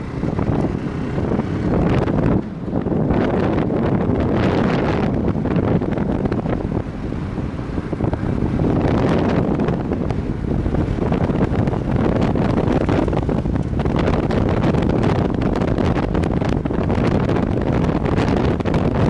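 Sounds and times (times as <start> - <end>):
motorcycle engine and road noise: 0.0 - 19.0
wind buffeting microphone: 0.0 - 19.0.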